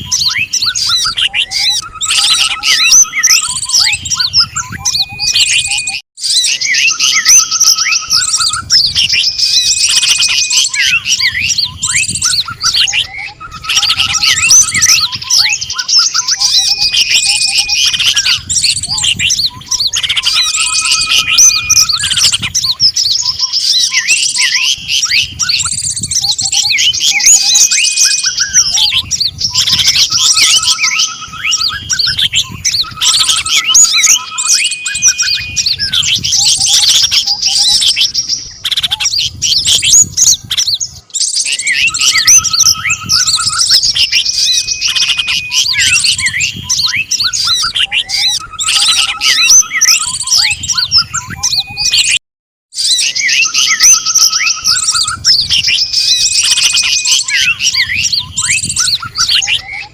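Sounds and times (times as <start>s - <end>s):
songbirds chirping: 0.0s - 52.2s, 52.8s - 59.9s.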